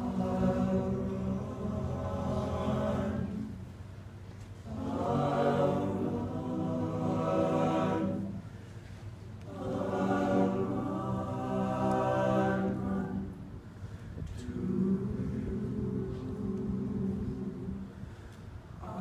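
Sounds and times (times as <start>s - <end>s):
male a cappella group singing: 0.0s - 3.8s, 4.6s - 8.5s, 9.4s - 13.6s, 14.2s - 18.1s, 18.8s - 19.0s.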